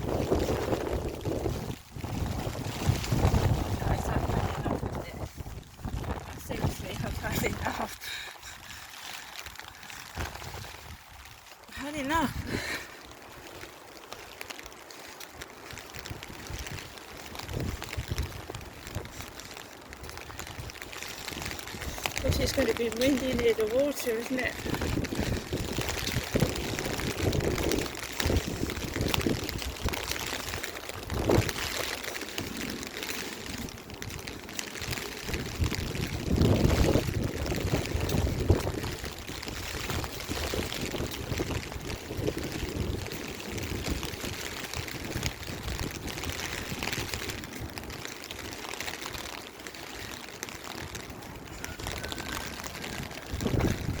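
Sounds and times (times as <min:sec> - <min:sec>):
gusty wind buffeting microphone: 0:00.0 - 0:08.9, 0:09.5 - 0:13.6, 0:15.6 - 0:49.4, 0:50.0 - 0:54.0
rain falling: 0:00.0 - 0:54.0.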